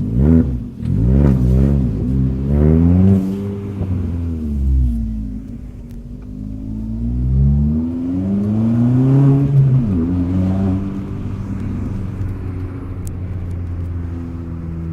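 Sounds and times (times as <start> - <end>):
car engine revving and idling: 0.0 - 14.9.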